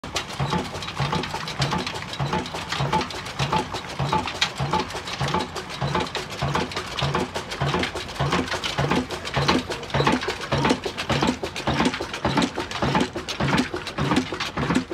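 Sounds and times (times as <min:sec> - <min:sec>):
diesel engine thumping: 0:00.0 - 0:14.9
mechanical clatter: 0:00.0 - 0:14.9.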